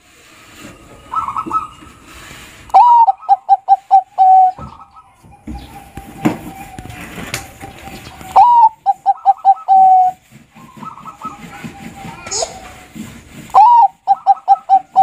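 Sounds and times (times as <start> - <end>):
dove cooing: 0.7 - 12.9, 13.5 - 15.0.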